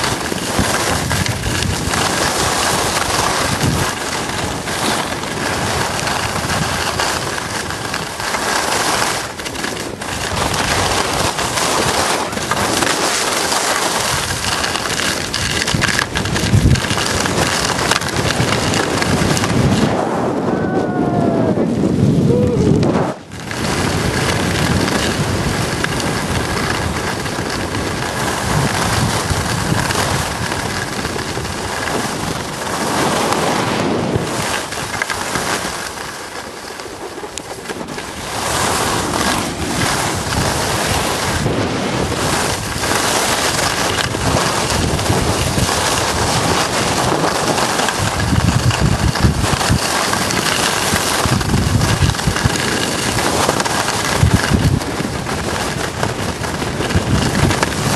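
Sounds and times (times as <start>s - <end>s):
skis sliding on snow: 0.0s - 57.9s
wind rushing over microphone: 0.0s - 57.9s.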